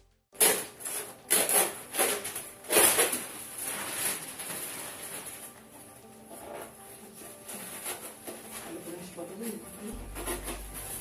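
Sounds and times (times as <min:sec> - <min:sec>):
plastic packaging rustling: 0:00.4 - 0:11.0.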